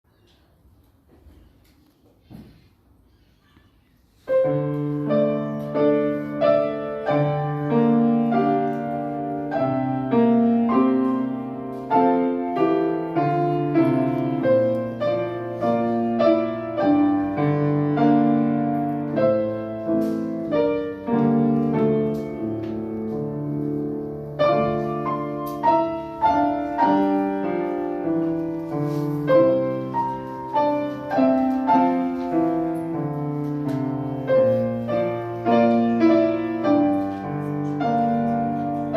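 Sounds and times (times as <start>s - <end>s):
solo piano piece: 4.2s - 38.9s.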